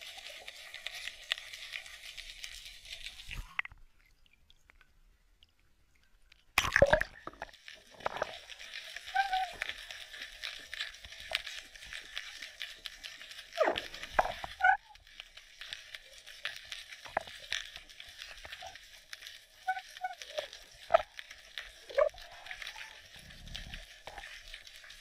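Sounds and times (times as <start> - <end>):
underwater crackle of clicks: 0.0 - 25.0.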